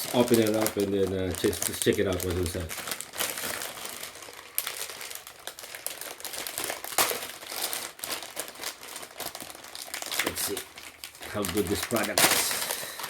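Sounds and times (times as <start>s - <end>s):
packaging crinkling and tearing: 0.0s - 13.0s.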